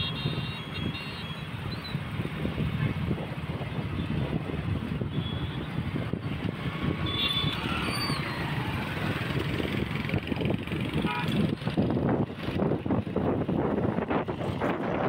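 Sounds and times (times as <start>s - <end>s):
traffic noise: 0.0s - 15.0s
wind buffeting microphone: 0.3s - 15.0s.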